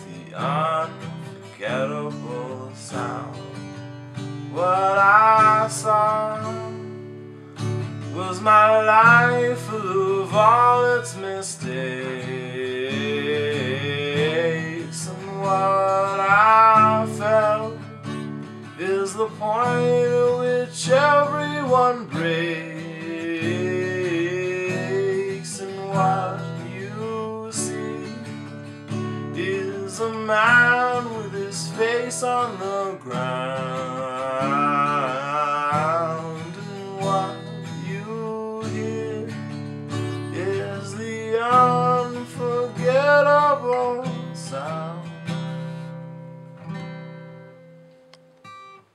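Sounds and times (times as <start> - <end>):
acoustic guitar strumming song: 0.0 - 48.9.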